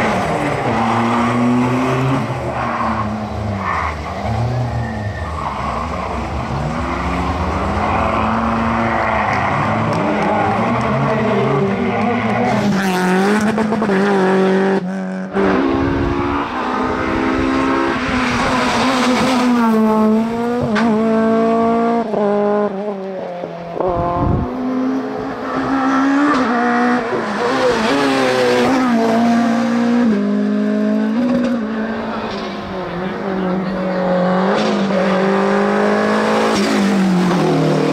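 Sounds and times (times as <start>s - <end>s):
rally car engines revving: 0.0s - 37.9s.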